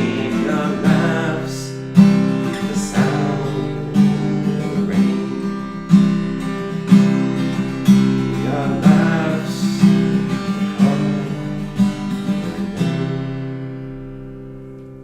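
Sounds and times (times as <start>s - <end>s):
acoustic guitar strummed chords: 0.0s - 15.0s.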